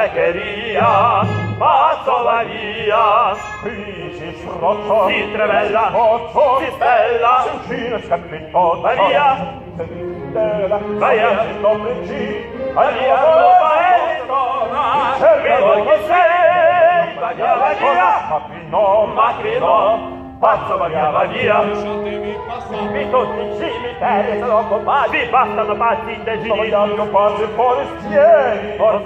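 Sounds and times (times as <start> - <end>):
opera singing with vibrato: 0.0 - 29.0.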